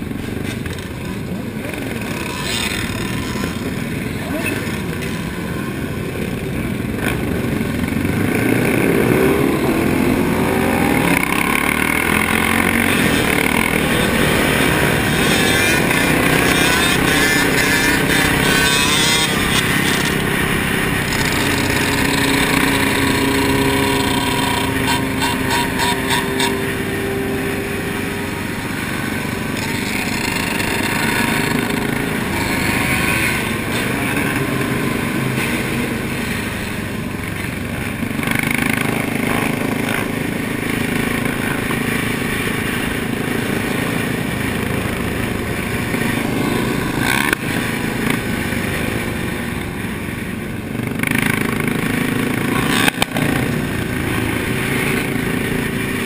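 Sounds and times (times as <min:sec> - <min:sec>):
motorcycle and atv engines: 0:00.0 - 0:56.0.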